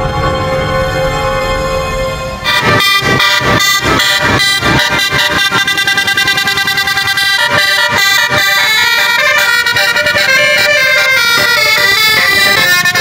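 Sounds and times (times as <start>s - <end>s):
multi-tone air horn melody: 0.0s - 13.0s.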